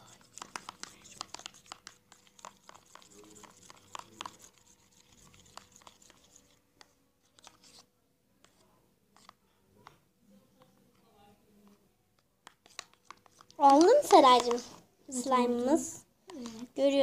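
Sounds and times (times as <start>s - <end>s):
slime being stirred with spoon: 0.0s - 10.0s, 10.6s - 14.8s.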